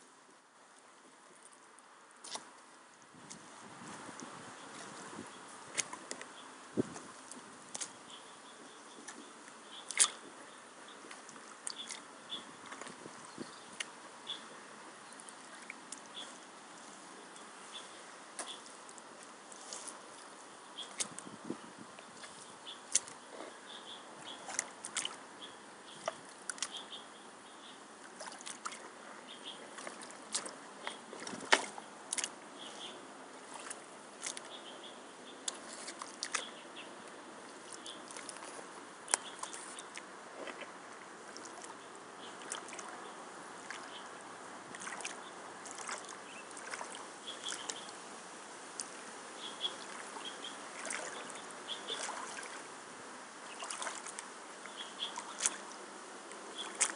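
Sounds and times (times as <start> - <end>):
splashes and squelches: 0.7 - 56.9
boots sloshing in muddy water: 2.2 - 27.1, 27.7 - 52.8, 53.4 - 56.9.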